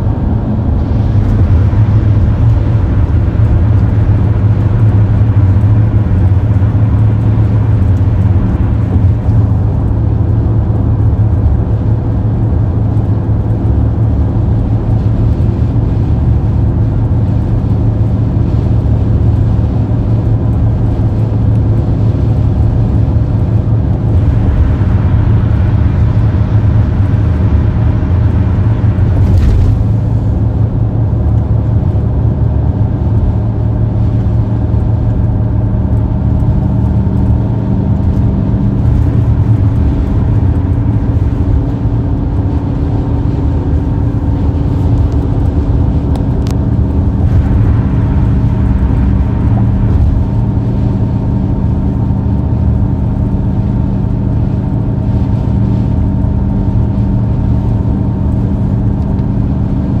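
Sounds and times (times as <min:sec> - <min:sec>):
car interior road and engine rumble: 0:00.0 - 1:00.0.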